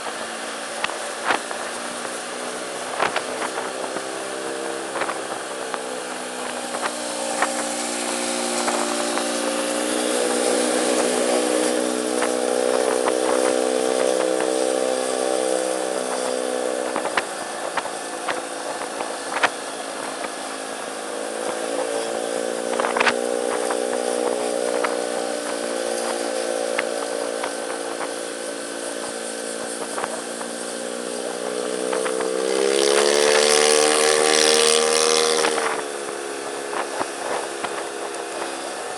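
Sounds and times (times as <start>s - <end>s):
motor scooter engine running: 0.0s - 38.9s.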